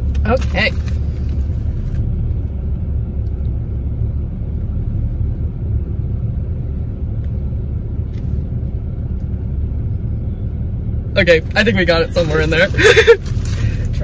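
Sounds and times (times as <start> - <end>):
car engine rumble in cabin: 0.0 - 14.0.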